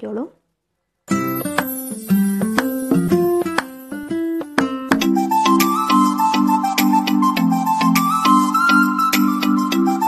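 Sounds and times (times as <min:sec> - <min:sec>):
background music with beat: 0:01.1 - 0:10.0.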